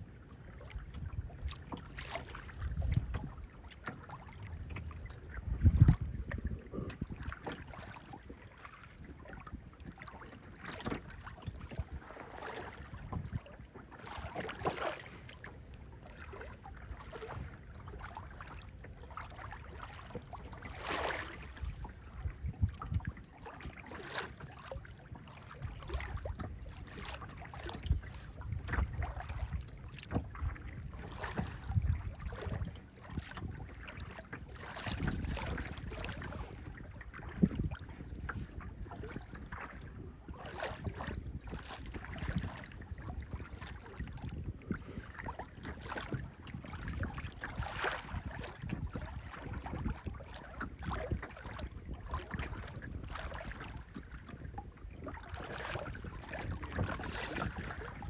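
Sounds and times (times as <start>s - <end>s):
boat engine low rumble: 0.0s - 58.0s
water splashing against hull: 0.0s - 58.0s.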